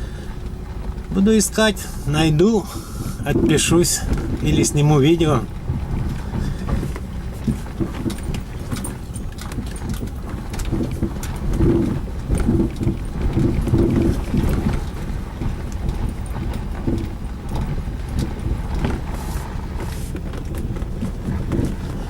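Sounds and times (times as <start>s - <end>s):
road rumble: 0.0s - 22.0s
suspension knocking: 0.0s - 22.0s.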